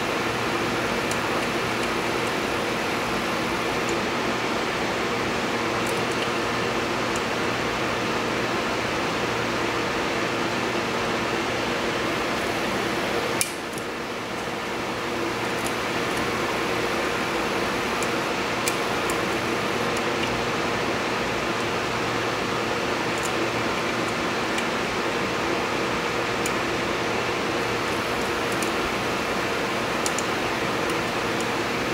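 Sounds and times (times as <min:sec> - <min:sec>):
background hum and hiss: 0:00.0 - 0:31.9.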